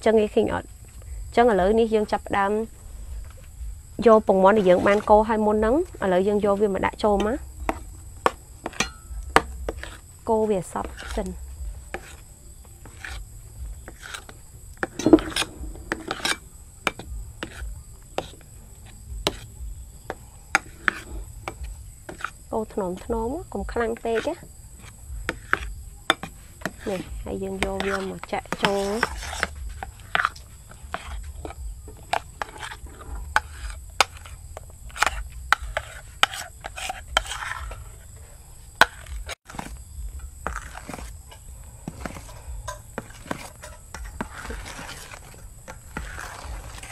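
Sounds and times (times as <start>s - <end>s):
spatula scraping batter: 4.5s - 5.2s, 7.3s - 22.5s, 23.8s - 39.8s, 40.4s - 46.9s.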